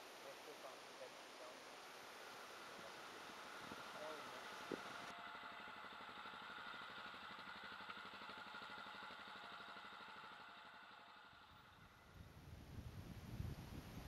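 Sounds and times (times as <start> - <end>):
motorcycle engine idling: 1.4 - 14.0.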